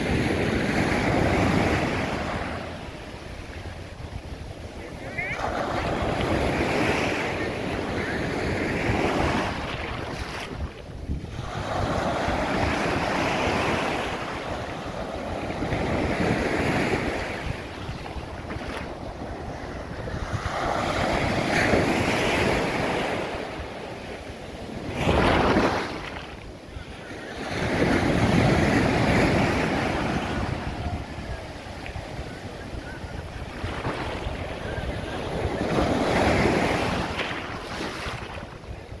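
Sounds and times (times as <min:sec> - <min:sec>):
surf washing up beach: 0:00.0 - 0:39.0
wind buffeting microphone: 0:00.0 - 0:39.0.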